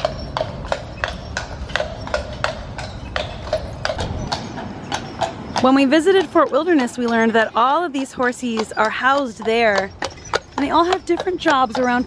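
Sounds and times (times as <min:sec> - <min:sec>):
hooves clip-clopping on pavement: 0:00.0 - 0:12.0.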